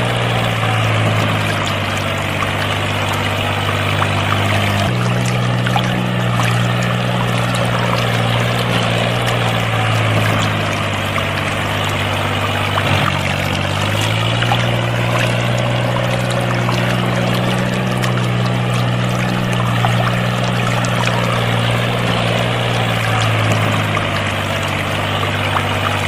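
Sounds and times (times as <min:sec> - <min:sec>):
low pump hum: 0:00.0 - 0:26.0
water pouring and splashing: 0:00.0 - 0:26.0.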